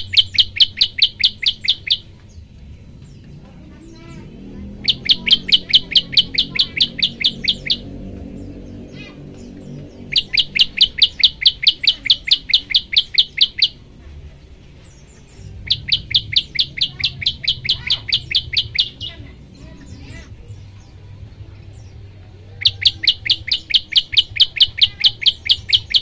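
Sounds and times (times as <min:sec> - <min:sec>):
bird chirping rapidly: 0:00.0 - 0:02.2, 0:03.9 - 0:14.0, 0:14.8 - 0:20.3, 0:22.6 - 0:26.0
faint chirps of other birds: 0:00.0 - 0:26.0.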